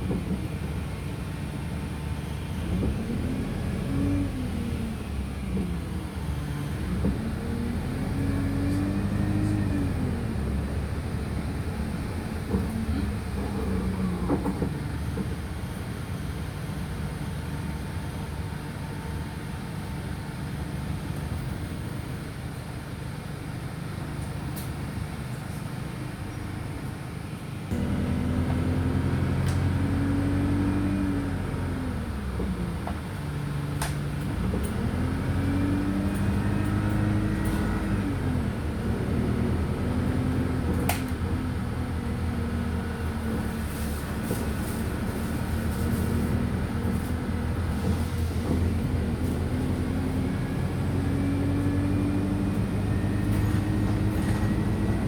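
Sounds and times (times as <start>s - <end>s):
bus engine accelerating: 0.0s - 55.0s.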